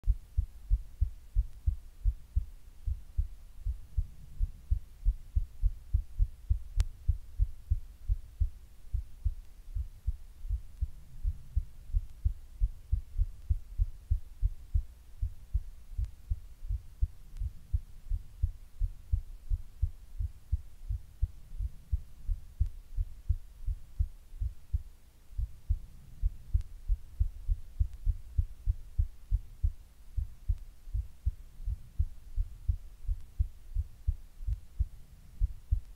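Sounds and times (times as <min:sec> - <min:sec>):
heartbeat thumps: 0:00.0 - 0:35.9.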